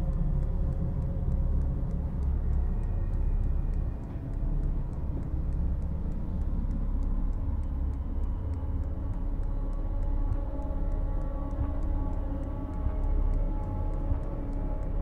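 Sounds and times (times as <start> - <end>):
faint ticks: 0.0 - 15.0
low rumbling drone: 0.0 - 15.0.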